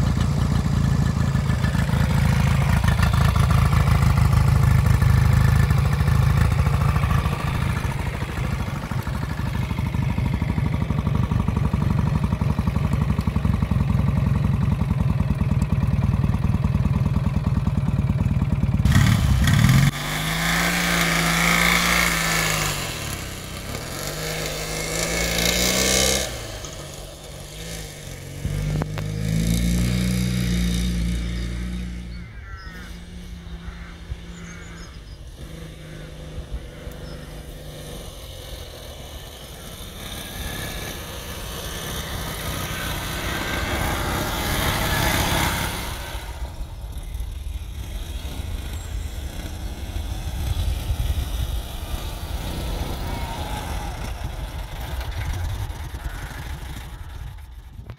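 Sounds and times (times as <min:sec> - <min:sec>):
scooter engine running: 0:00.0 - 0:57.9.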